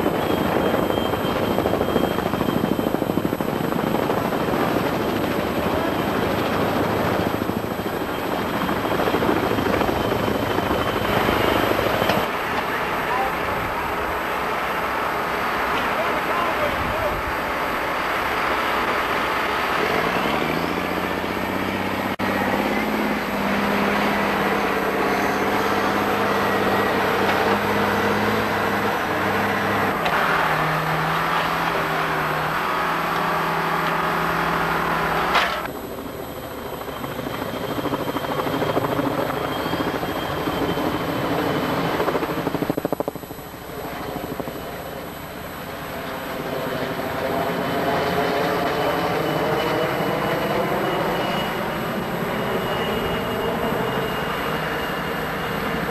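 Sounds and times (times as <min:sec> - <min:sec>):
helicopter rotor and turbine drone: 0:00.0 - 0:55.9
thin high whine: 0:00.0 - 0:55.9.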